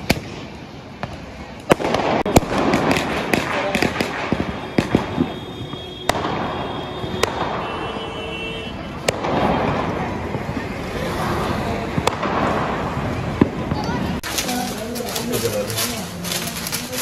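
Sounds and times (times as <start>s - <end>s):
firecrackers banging: 0.0s - 17.0s
fireworks crackling: 0.0s - 17.0s.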